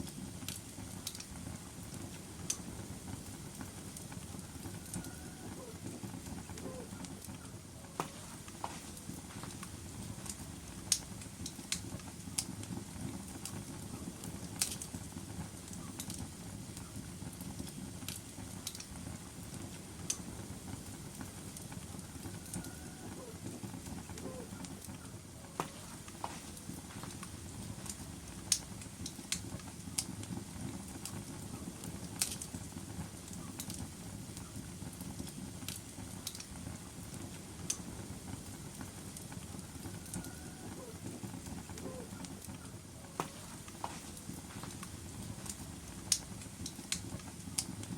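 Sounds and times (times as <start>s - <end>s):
fire crackling and popping: 0.0s - 47.9s
fire rumbling: 0.0s - 47.9s.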